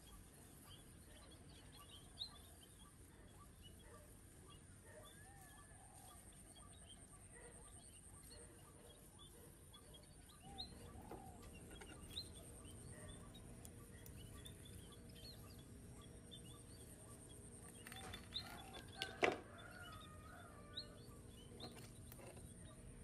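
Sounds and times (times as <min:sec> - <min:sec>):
birds chirping and calling: 0:00.0 - 0:23.0.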